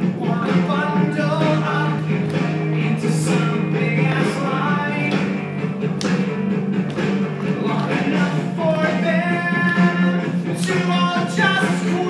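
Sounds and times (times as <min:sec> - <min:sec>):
ensemble singing rock musical song: 0:00.0 - 0:12.0
instrumental accompaniment: 0:00.0 - 0:12.0.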